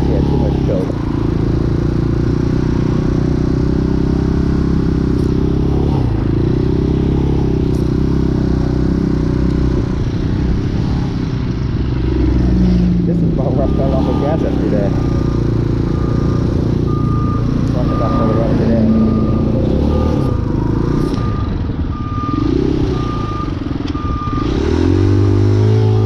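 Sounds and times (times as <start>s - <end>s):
motorcycle engine idling: 0.0s - 12.1s, 13.0s - 24.0s.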